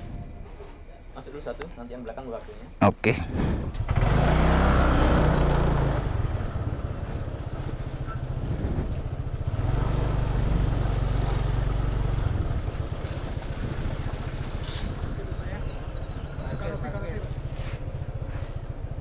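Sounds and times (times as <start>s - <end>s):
road noise: 0.0s - 19.0s
wind: 0.0s - 19.0s
motor scooter engine pulling away: 3.6s - 19.0s.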